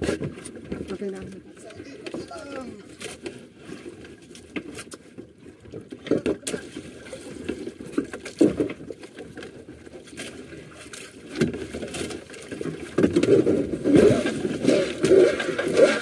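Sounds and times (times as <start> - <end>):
water washing around boat: 0.0 - 16.0.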